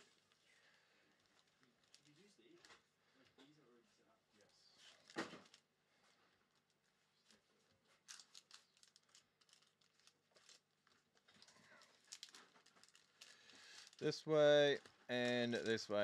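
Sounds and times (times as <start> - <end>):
wrapped card packs crinkling: 0.0 - 2.8, 4.8 - 5.7, 6.5 - 16.0.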